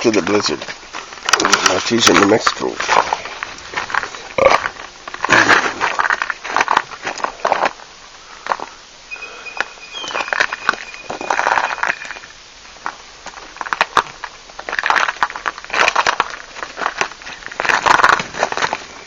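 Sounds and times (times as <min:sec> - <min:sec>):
snow crunching underfoot: 0:00.0 - 0:19.0.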